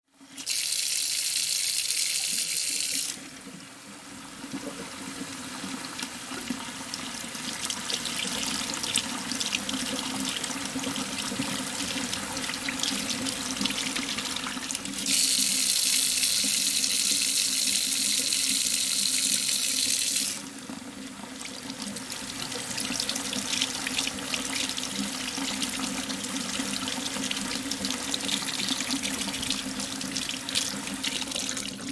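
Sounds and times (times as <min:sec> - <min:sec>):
water running into a tray: 0:00.3 - 0:03.4, 0:04.4 - 0:31.9.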